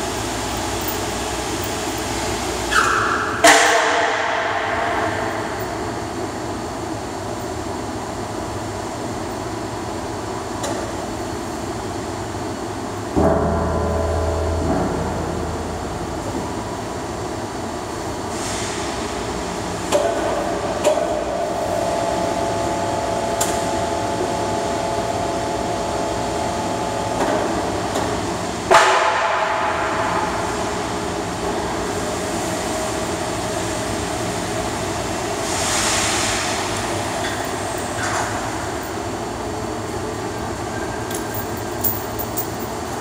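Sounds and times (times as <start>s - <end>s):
heavy shop machinery din: 0.0s - 43.0s.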